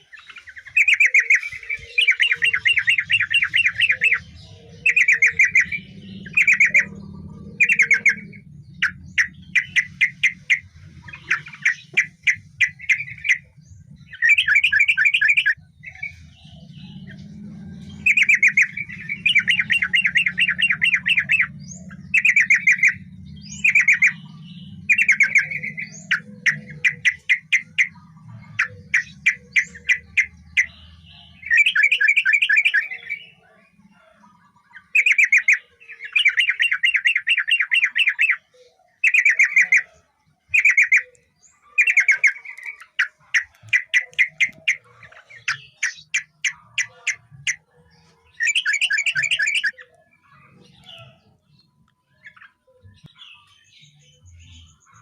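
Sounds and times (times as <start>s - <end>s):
bird singing bubbly chattering phrases: 0.0s - 55.0s.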